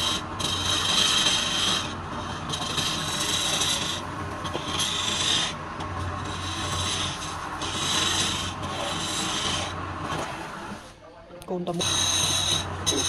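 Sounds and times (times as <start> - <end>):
wood lathe humming: 0.0 - 10.8, 11.7 - 13.0
tool scraping spinning wood: 0.0 - 10.9, 11.7 - 13.0.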